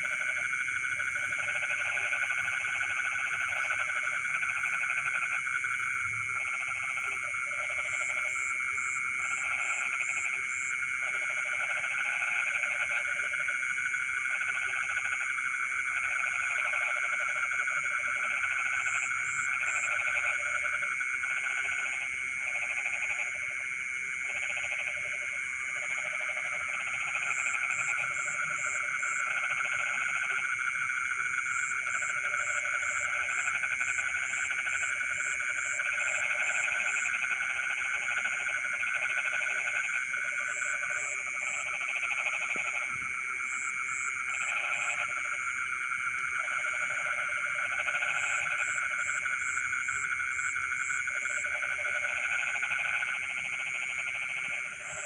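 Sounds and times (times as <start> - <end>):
frogs croaking: 0.0 - 55.0
frogs trilling hum: 0.0 - 55.0.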